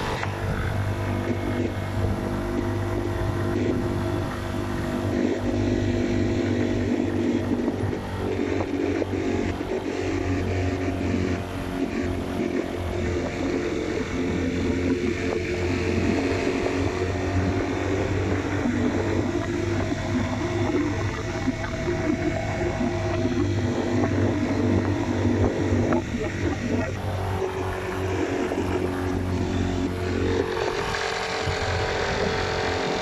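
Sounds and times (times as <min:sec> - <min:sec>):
motorcycle engine running: 0:00.0 - 0:33.0
road noise: 0:00.0 - 0:33.0
rushing wind: 0:00.0 - 0:33.0.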